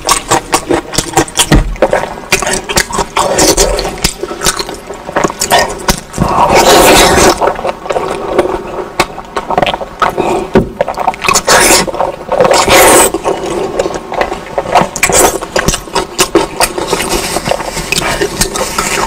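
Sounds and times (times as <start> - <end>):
mouth clicks and smacks: 0.0 - 19.0
slurping: 0.0 - 19.0
wet chewing: 0.0 - 19.0.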